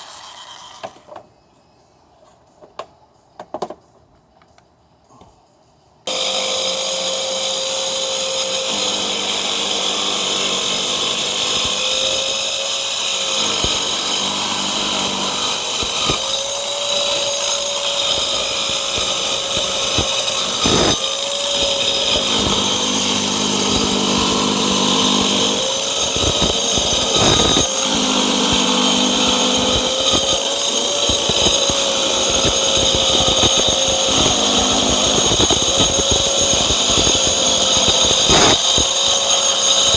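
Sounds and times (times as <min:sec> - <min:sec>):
circular saw whining: 0:00.0 - 0:01.1, 0:06.1 - 0:39.9.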